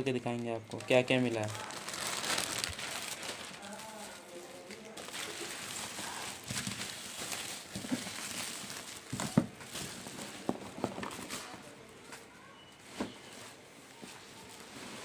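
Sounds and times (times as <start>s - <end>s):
bubble wrap crinkling: 0.0s - 12.3s.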